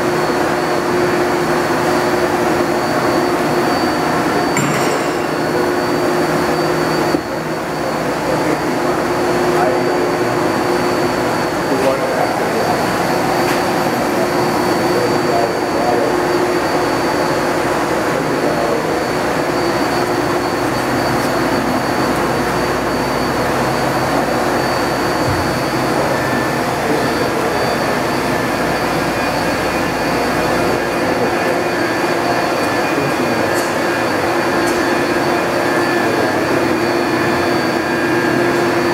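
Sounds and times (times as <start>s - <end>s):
high-pitched whine: 0.0s - 38.9s
machinery hum: 0.0s - 38.9s.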